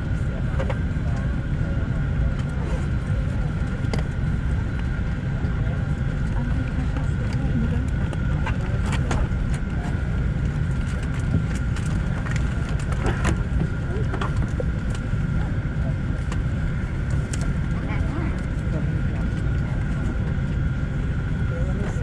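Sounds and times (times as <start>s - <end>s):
low rumble in aircraft cabin: 0.0s - 22.0s.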